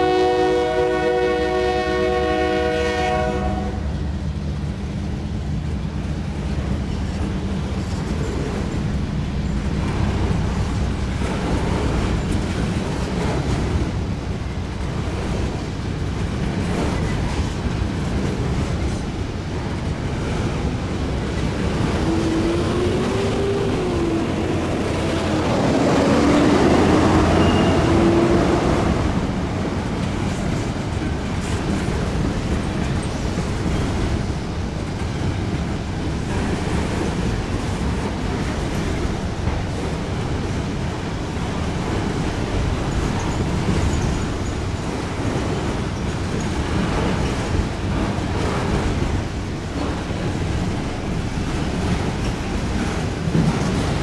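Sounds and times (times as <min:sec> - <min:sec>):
steel wheels rolling on track: 0:06.9 - 0:54.0.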